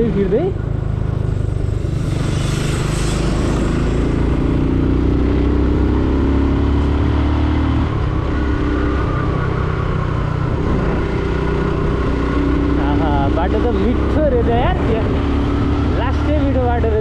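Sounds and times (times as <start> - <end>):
motorcycle engine running: 0.0 - 17.0
wind rumble on microphone: 1.0 - 16.0.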